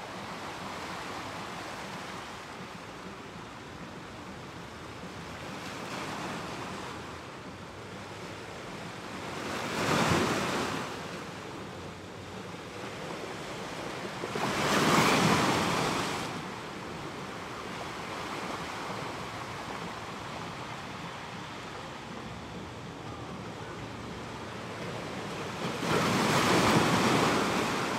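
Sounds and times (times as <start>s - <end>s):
ocean waves surging: 0.0s - 27.9s.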